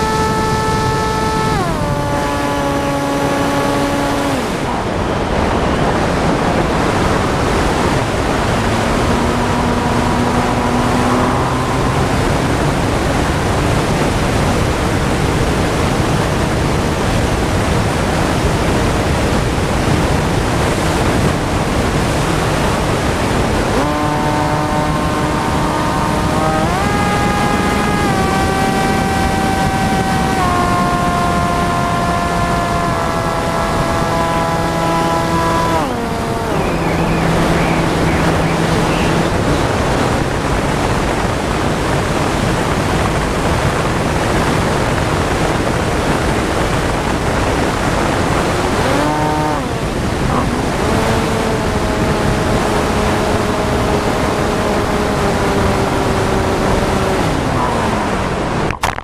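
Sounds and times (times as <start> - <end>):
electric motor propeller whine: 0.0 - 58.7
wind rush: 0.0 - 59.0.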